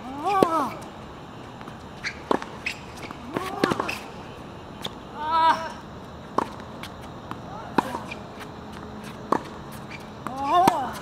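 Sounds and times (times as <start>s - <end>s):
tennis ball bouncing: 0.0s - 5.0s, 6.3s - 11.0s
racquets striking tennis ball: 0.0s - 5.1s, 6.1s - 11.0s.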